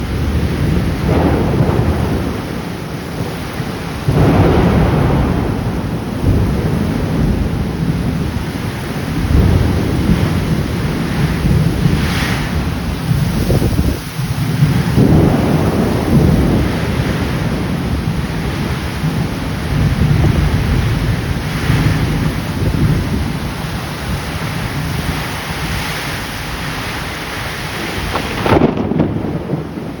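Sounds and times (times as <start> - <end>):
heavy rain falling: 0.0 - 30.0
thunder rumbling: 0.0 - 30.0.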